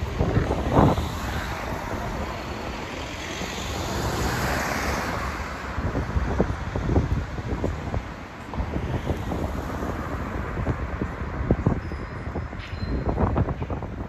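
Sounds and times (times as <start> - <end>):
traffic noise: 0.0 - 14.0
wind rumbling on microphone: 0.0 - 14.0.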